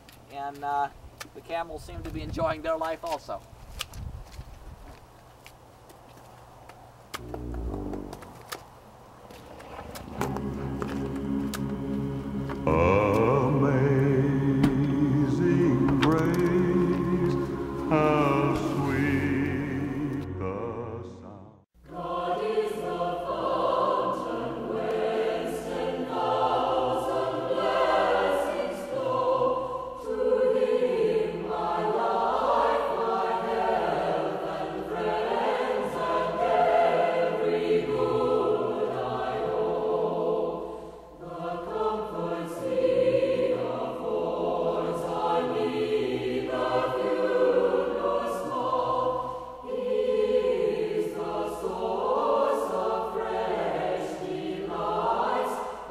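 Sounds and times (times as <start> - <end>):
choir singing: 7.2 - 8.3, 9.4 - 55.9.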